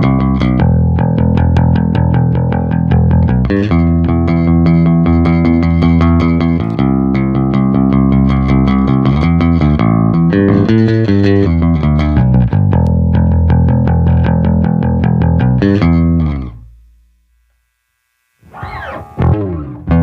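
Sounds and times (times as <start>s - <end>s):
electric bass plucked notes: 0.0s - 17.3s, 18.5s - 20.0s.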